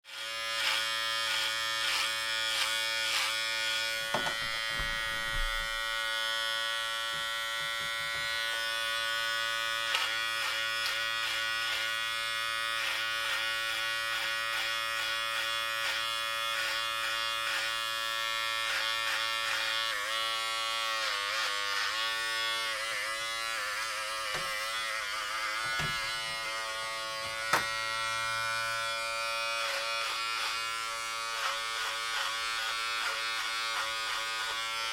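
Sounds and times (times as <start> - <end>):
electric hair clippers buzzing: 0.0 - 34.9.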